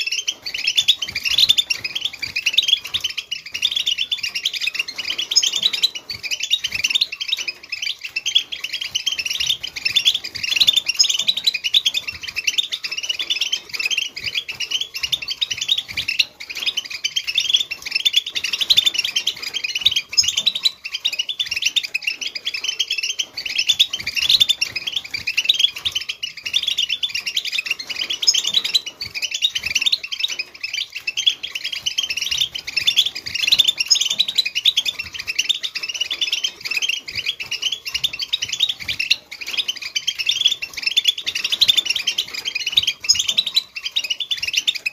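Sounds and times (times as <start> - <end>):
goldfinch twittering trills: 0.0 - 44.9.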